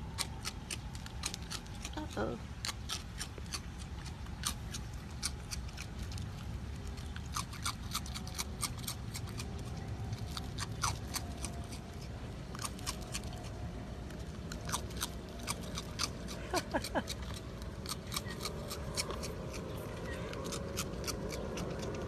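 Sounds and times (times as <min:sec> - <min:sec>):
animal chewing crunchy cereal: 0:00.0 - 0:22.0
low steady rumble: 0:00.0 - 0:22.0.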